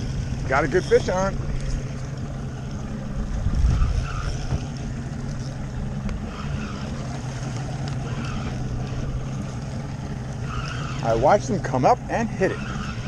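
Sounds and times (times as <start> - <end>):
outboard motor running: 0.0 - 13.0
water noise: 0.0 - 13.0
wind: 0.0 - 13.0.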